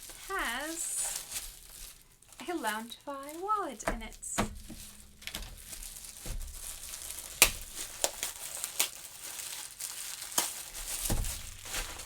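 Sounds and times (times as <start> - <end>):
packaging pouch crinkling: 0.0 - 12.0.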